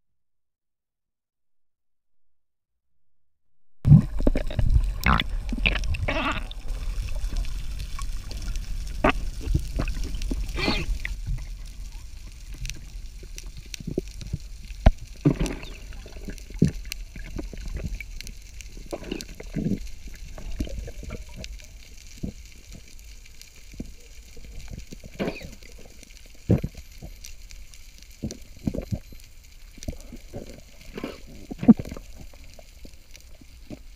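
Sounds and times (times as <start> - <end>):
low underwater rumble: 3.9 - 33.9
underwater clicks and crackles: 3.9 - 33.9
water gurgling: 3.9 - 33.9.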